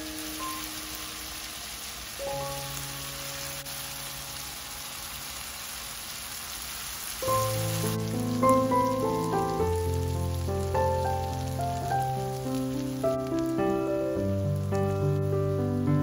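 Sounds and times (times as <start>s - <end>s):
soft background music: 0.0s - 5.5s, 7.2s - 16.0s
onions sizzling in a frying pan: 0.0s - 16.0s.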